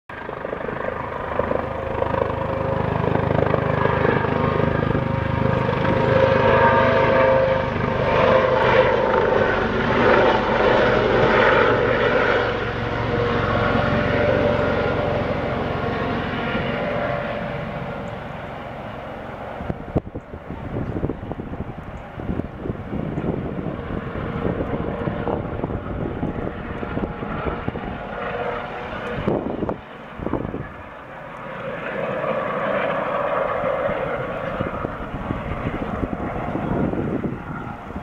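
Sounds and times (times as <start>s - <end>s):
helicopter rotor noise: 0.1s - 38.0s
helicopter turbine whine: 0.1s - 38.0s.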